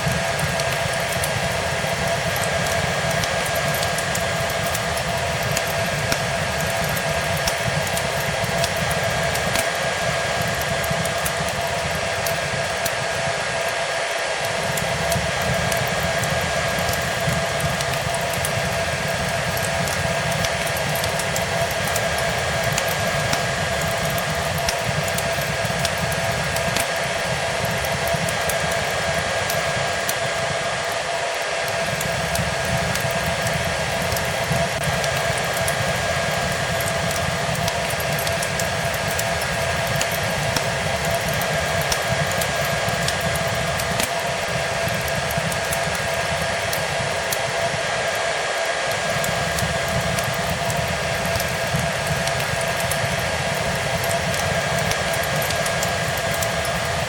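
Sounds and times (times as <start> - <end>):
fireplace crackling: 0.0 - 57.0
hair dryer blowing: 0.0 - 57.0.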